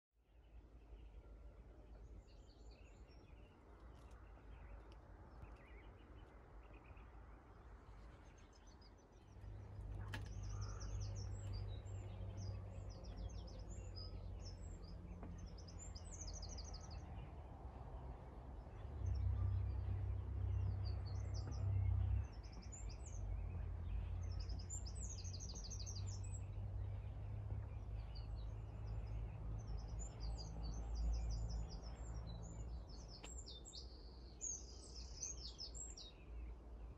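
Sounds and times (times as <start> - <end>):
songbirds chirping: 0.2 - 36.9.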